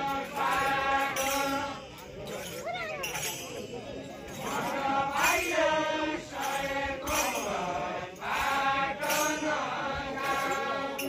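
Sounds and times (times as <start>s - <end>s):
men chanting folk song: 0.0s - 2.6s, 4.1s - 11.0s.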